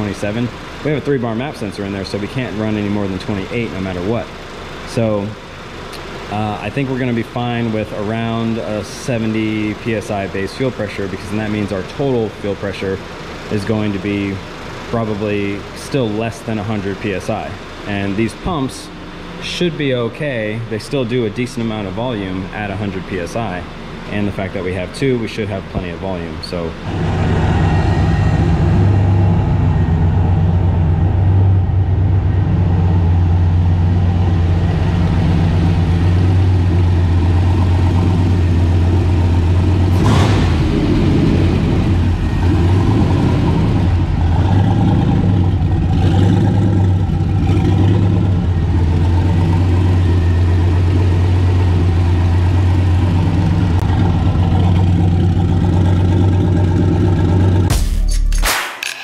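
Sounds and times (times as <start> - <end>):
truck engine idling: 0.0 - 57.8.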